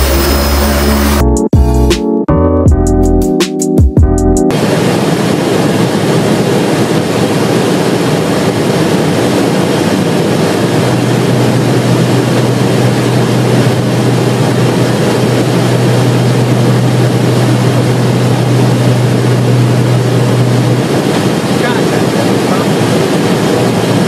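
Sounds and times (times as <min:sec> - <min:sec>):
airflow and engines roaring: 0:00.0 - 0:02.0, 0:02.7 - 0:24.0
steady low hum: 0:04.5 - 0:24.0.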